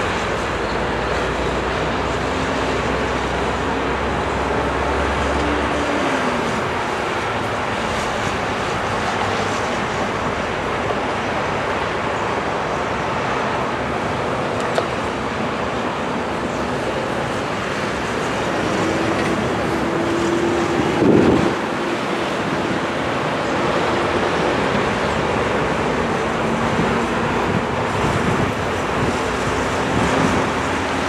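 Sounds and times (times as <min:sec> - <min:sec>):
jet engines at takeoff thrust: 0:00.0 - 0:31.0.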